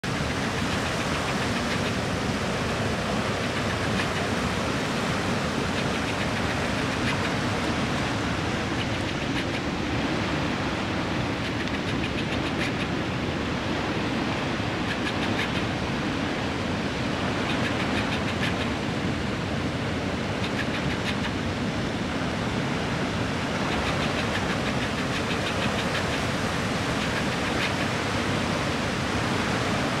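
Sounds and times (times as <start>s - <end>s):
turbulent water churning: 0.0s - 30.0s.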